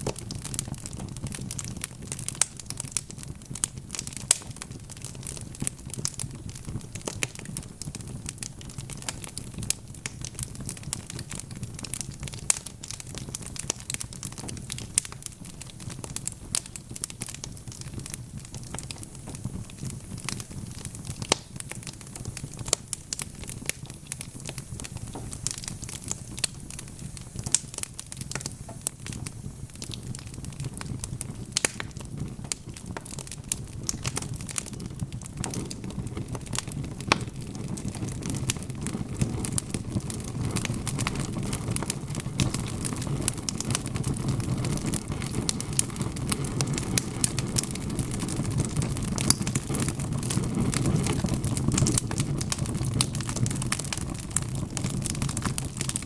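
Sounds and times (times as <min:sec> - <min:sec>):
fireplace logs crackling: 0:00.0 - 0:56.0.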